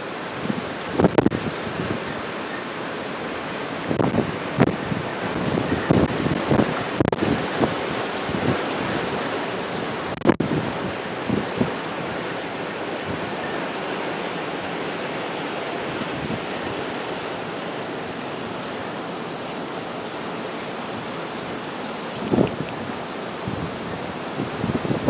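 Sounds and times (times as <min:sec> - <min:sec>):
hurricane wind rushing: 0:00.0 - 0:25.0
wind gusts buffeting microphone: 0:00.0 - 0:25.0.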